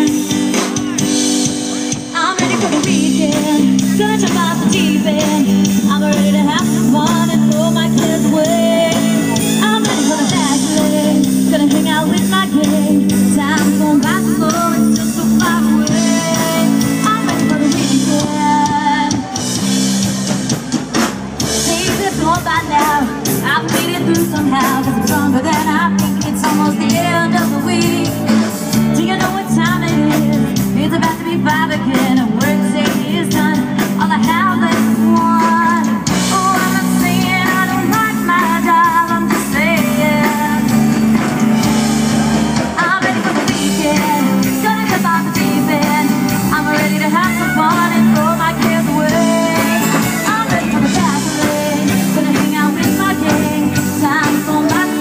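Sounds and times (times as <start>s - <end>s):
live country band playing: 0.0s - 55.0s.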